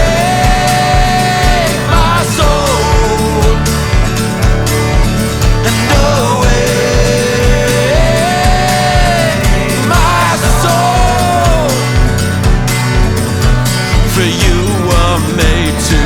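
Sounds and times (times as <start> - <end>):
folk-rock song: 0.0 - 16.0
kick drum beat: 0.0 - 16.0.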